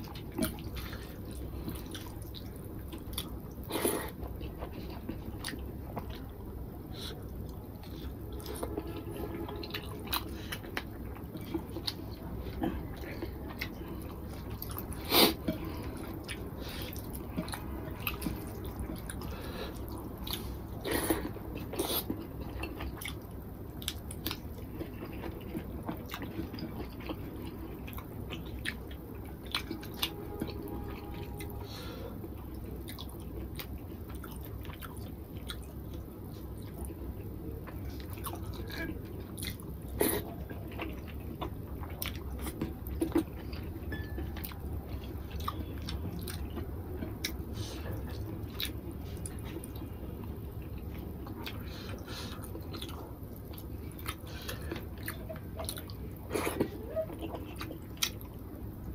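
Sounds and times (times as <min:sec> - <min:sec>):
man chewing with mouth clicks: 0:00.0 - 0:58.9.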